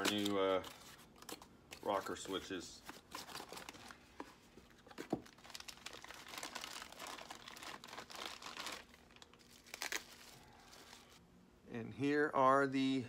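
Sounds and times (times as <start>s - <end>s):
packaging crinkling and rustling: 0.0s - 11.2s.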